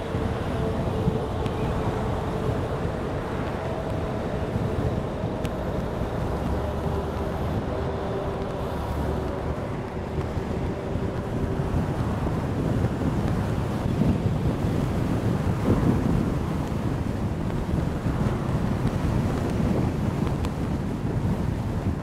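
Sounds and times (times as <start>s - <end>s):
road and traffic noise: 0.0s - 22.0s
wind buffeting microphone: 0.0s - 22.0s.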